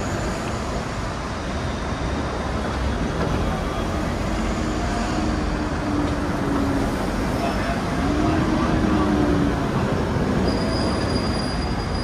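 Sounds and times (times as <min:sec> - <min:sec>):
road traffic: 0:00.0 - 0:12.0
tram running: 0:00.0 - 0:12.0.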